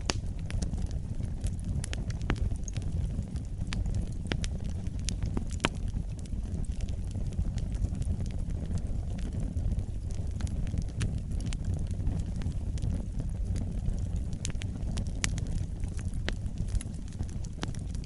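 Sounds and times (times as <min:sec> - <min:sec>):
fire crackling and popping: 0:00.0 - 0:18.0
fire flames rumbling: 0:00.0 - 0:18.0.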